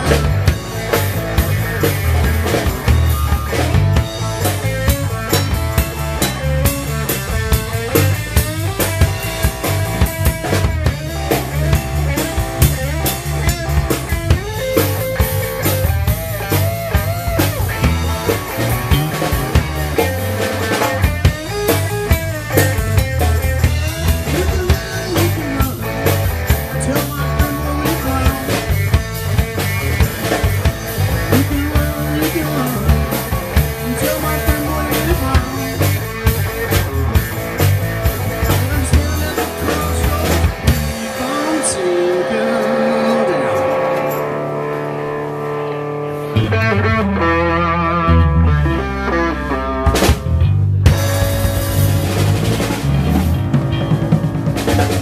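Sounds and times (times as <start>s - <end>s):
drum kit beat: 0.0s - 44.4s, 49.8s - 55.0s
live rock band: 0.0s - 55.0s.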